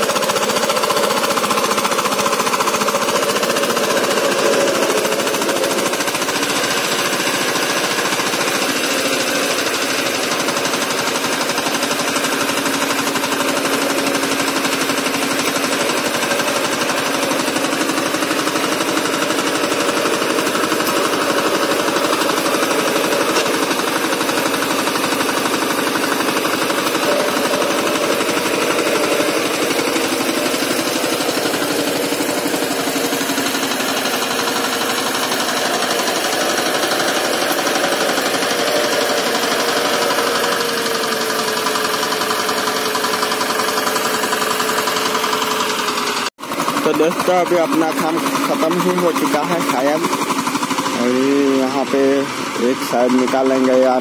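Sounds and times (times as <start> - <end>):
tiller diesel engine running: 0.0 - 54.0.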